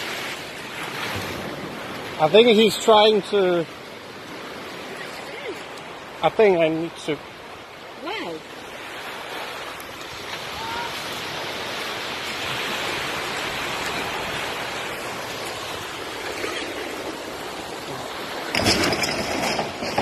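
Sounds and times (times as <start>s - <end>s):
surf washing on a beach: 0.0s - 20.0s.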